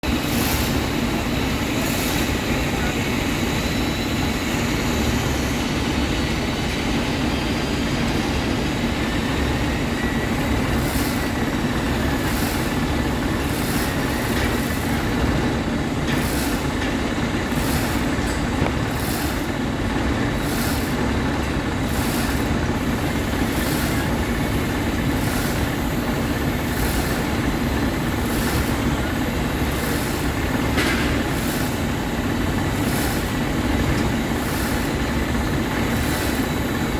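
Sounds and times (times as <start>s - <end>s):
crane engine droning: 0.0s - 36.9s.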